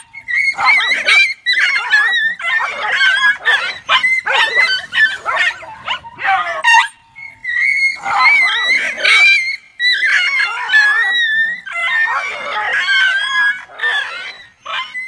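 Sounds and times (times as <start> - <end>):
dogs fighting yelping: 0.0 - 15.0.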